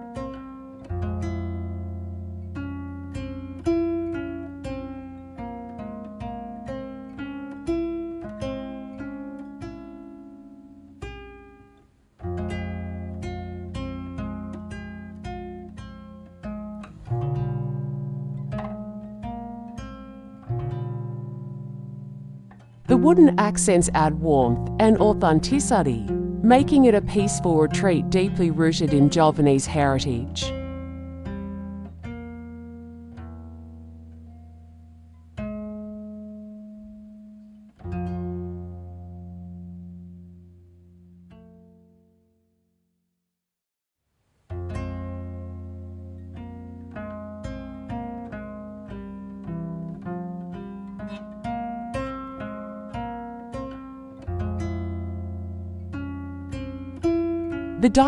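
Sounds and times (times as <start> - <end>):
acoustic guitar music: 0.0 - 42.4, 44.4 - 58.0.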